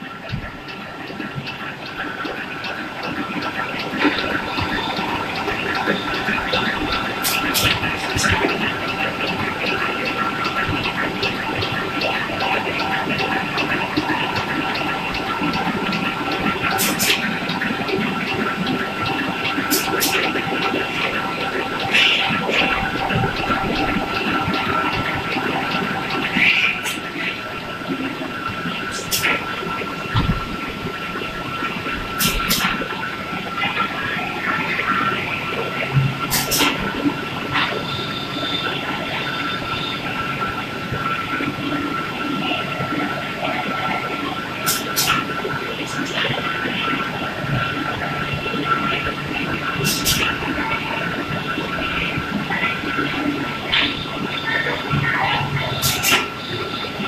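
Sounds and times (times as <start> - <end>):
machinery ticking and whining: 0.0 - 57.0.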